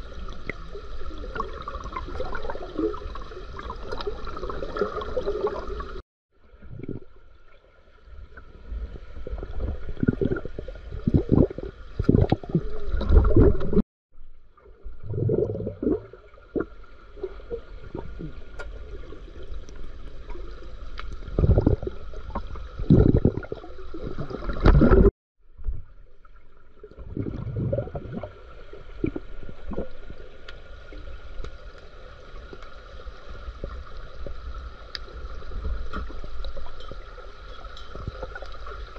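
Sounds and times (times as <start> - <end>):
underwater bubbling and gurgling: 0.0 - 38.9.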